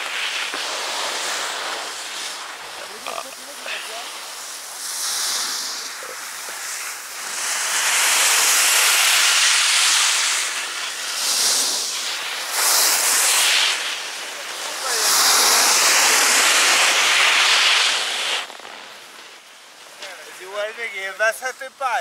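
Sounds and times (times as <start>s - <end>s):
skis scraping over packed snow: 0.0s - 22.0s.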